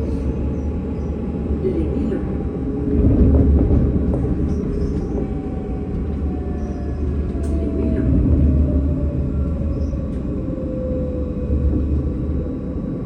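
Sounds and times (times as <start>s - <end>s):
tram rumbling with whine: 0.0s - 13.0s.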